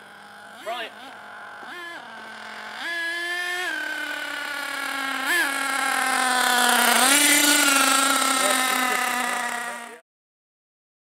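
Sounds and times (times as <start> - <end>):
radio-controlled truck motor revving: 0.0 - 10.0.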